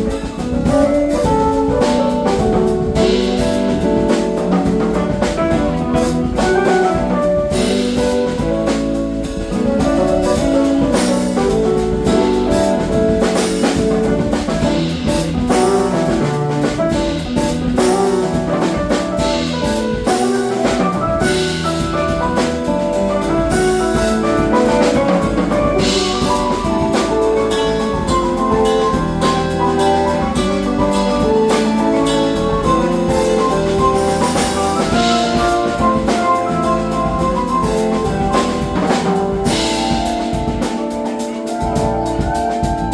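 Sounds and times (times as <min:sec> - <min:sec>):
live funk band playing: 0:00.0 - 0:42.9.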